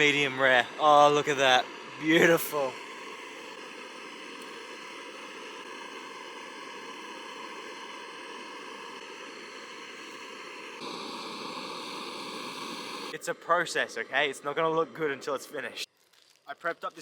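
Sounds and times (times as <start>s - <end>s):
steady rushing hiss: 0.0s - 15.8s.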